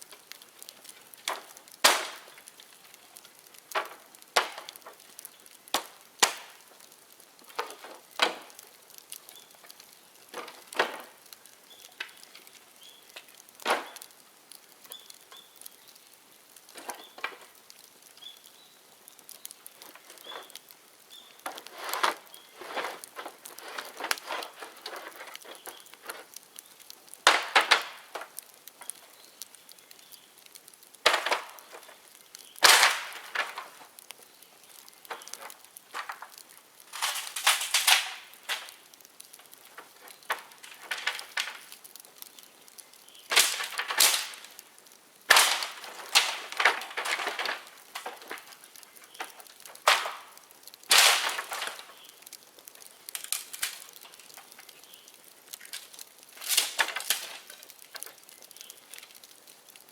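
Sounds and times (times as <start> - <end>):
bamboo burning in bonfire: 0.0 - 59.9
sharp cracks and snaps: 0.0 - 59.9.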